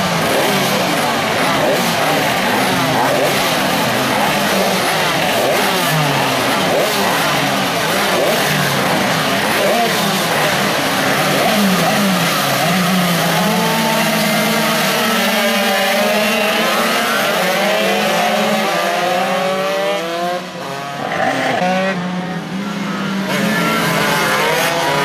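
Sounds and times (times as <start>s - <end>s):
minibike engines revving and passing: 0.0s - 25.0s.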